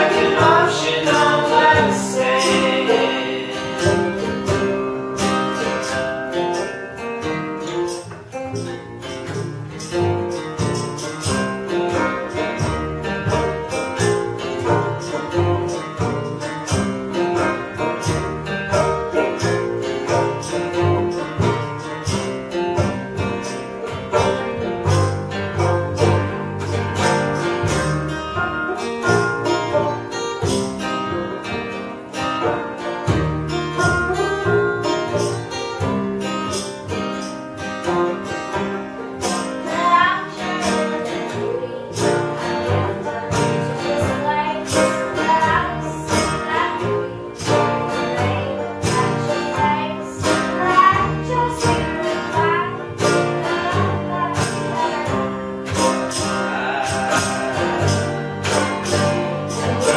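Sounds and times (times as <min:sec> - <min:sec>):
acoustic guitar: 0:00.0 - 0:59.9
banjo picking: 0:00.0 - 0:59.9
upright bass: 0:00.0 - 0:59.9.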